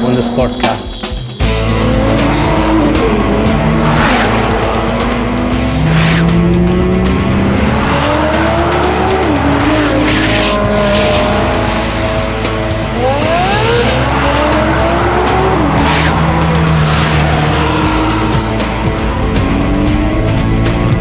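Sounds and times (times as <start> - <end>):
background music: 0.0 - 21.0
sports car engines revving: 0.0 - 21.0.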